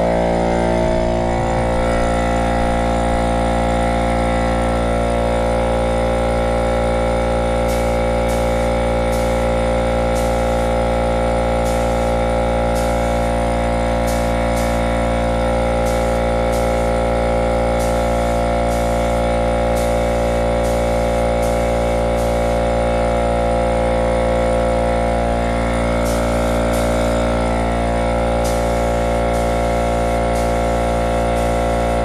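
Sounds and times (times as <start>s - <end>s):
air compressor motor running: 0.0s - 32.0s
spray gun hissing bursts: 0.0s - 32.0s.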